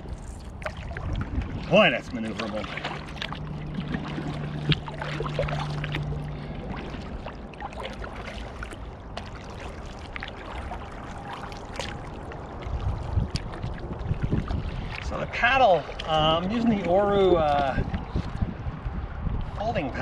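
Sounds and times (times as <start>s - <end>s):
small splashes: 0.0s - 18.5s
paddle blades dipping in water: 0.0s - 19.6s
water trickling and dripping: 0.0s - 20.0s.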